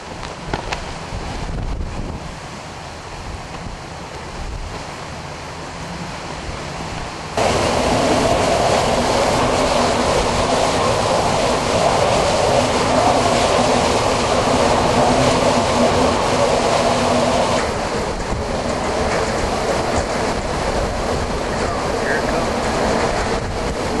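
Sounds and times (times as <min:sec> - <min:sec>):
storm wind and rain rushing: 0:00.0 - 0:24.0.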